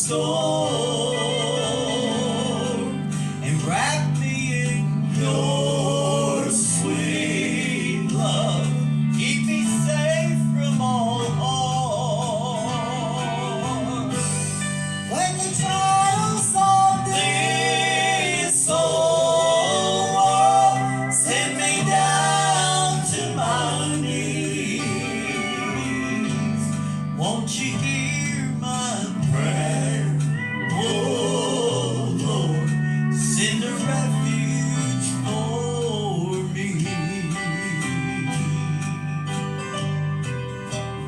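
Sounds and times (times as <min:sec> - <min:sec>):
sustained instrumental chords: 0:00.0 - 0:41.0.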